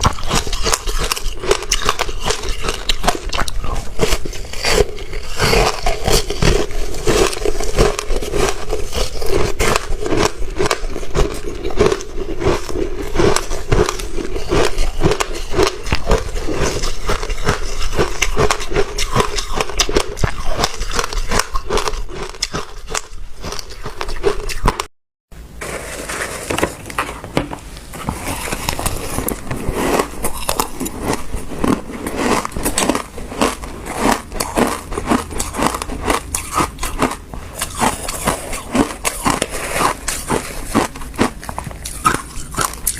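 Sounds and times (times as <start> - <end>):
crunching and chewing ice: 0.0 - 24.9, 28.0 - 42.9.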